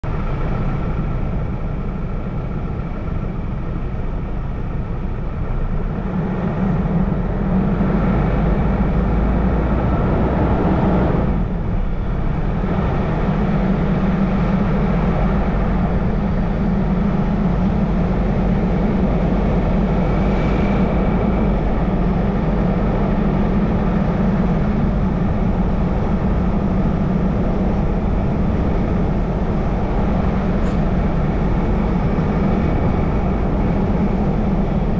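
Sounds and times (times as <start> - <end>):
car engine and tyre noise: 0.0 - 34.9.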